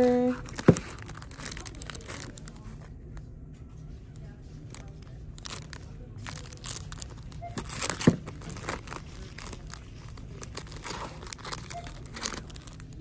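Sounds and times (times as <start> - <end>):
plastic wrapping crinkling: 0.0 - 3.0, 4.1 - 13.0.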